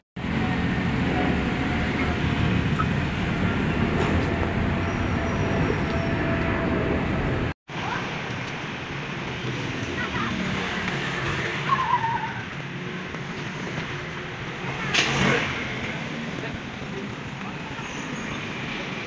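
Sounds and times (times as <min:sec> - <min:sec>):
street traffic rumble: 0:00.2 - 0:19.0.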